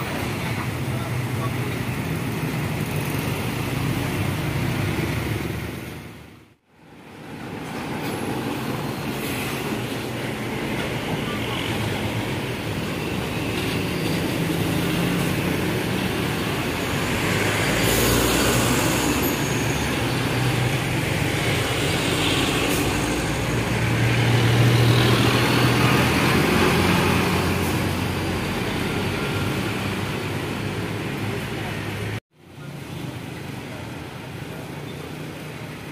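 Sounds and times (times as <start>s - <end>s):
vehicles passing on highway: 0.0s - 35.9s.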